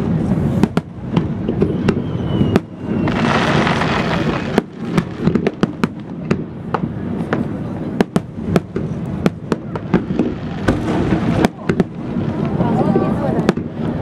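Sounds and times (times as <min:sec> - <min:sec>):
firework crackle hissing: 0:00.0 - 0:14.0.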